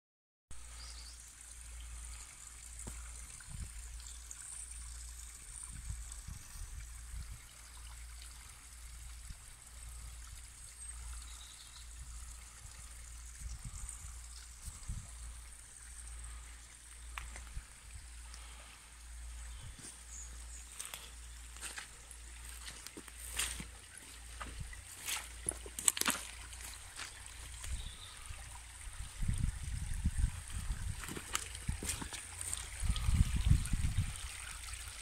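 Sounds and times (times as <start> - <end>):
water trickling in stream: 0.6 - 35.0.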